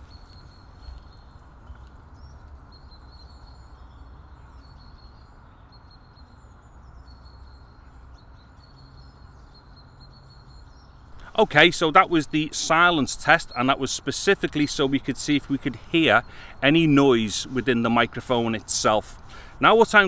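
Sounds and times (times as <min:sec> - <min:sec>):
birds chirping faintly: 0:00.0 - 0:20.0.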